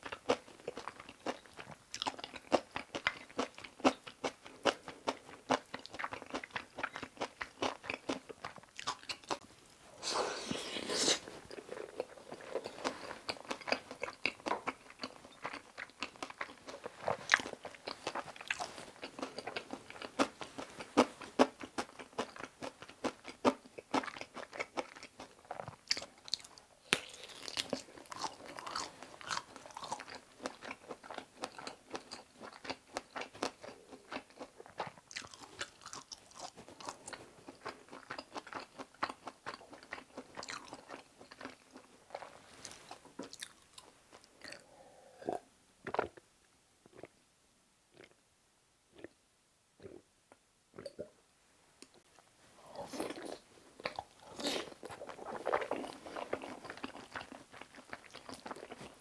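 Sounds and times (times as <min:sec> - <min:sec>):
chewing food: 0:00.0 - 0:09.5, 0:11.1 - 0:46.2, 0:52.7 - 0:59.0.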